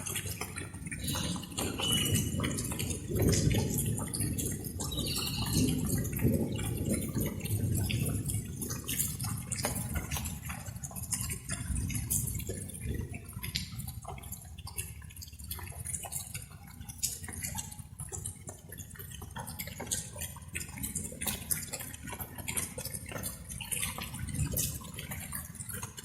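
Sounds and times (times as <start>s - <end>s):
light rain dripping: 0.0s - 26.0s.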